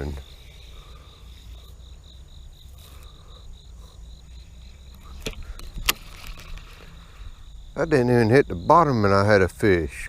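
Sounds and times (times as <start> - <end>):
insect chirping trill: 0.0 - 10.0.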